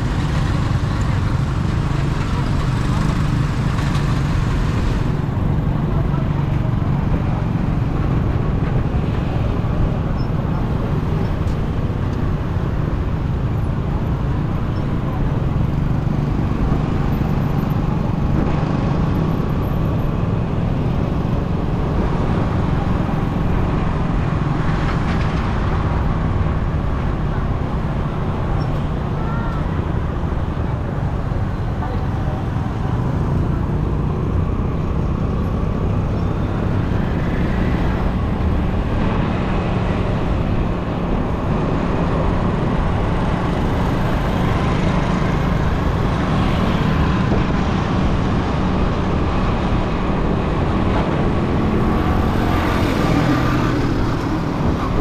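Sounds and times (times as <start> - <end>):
motorcycle engine cruising: 0.0 - 55.0
road and traffic noise: 0.0 - 55.0.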